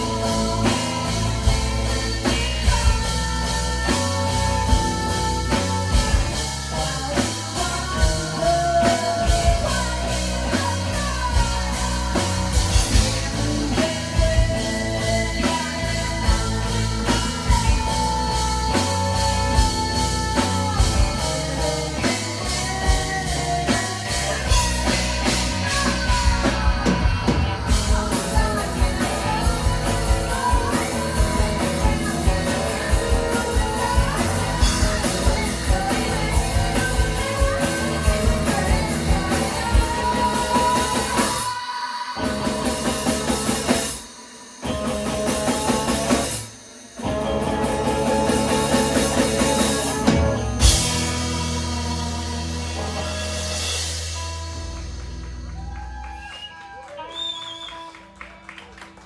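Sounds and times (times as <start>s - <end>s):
person singing: 0.0s - 46.4s, 47.0s - 54.4s
bass guitar: 0.0s - 59.0s
drum kit: 0.0s - 59.0s
electric guitar: 0.0s - 59.0s.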